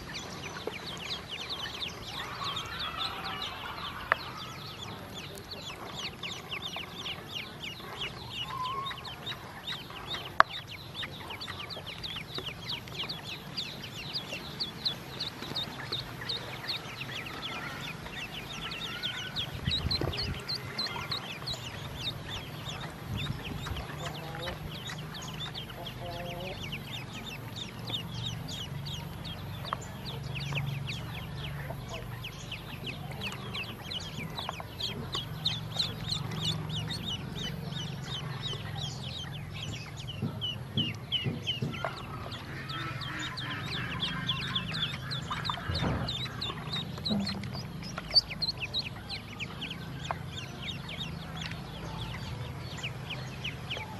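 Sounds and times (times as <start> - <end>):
ducklings peeping: 0.0 - 53.9
steady low hum: 0.0 - 53.9.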